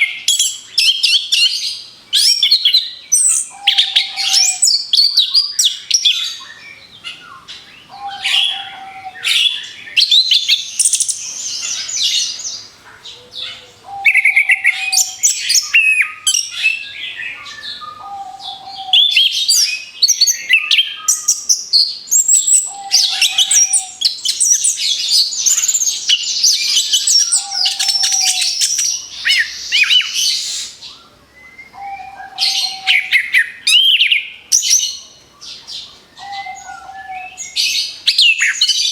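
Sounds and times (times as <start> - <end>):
thrush singing chirps and trills: 0.0 - 38.9.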